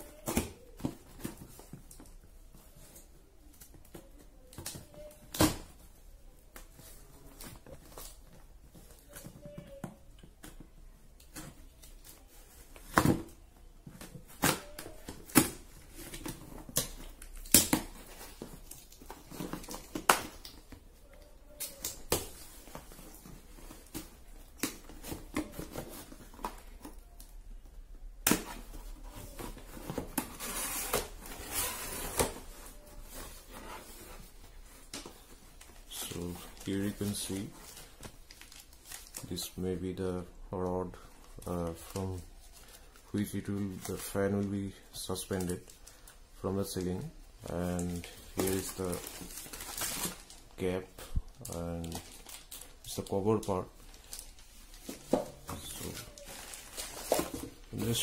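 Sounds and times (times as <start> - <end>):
plastic wrapping rustling: 0.0 - 58.0.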